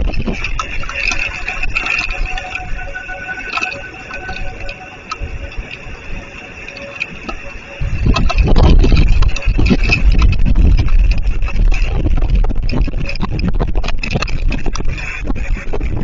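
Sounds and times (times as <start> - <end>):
wind gusts buffeting microphone: 0.0 - 3.1, 5.0 - 16.0.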